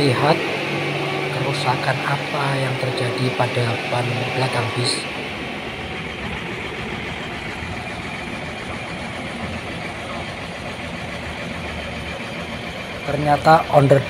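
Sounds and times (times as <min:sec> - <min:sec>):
large vehicle engine idling: 0:00.0 - 0:14.0
outdoor noise: 0:00.0 - 0:14.0.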